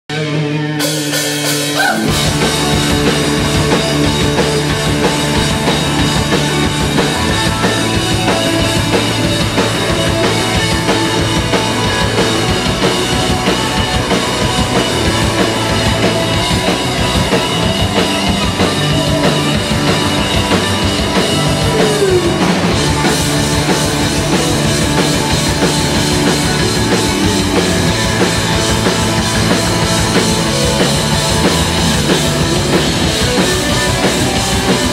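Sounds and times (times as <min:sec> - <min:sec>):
punk rock band playing: 0:00.1 - 0:34.9.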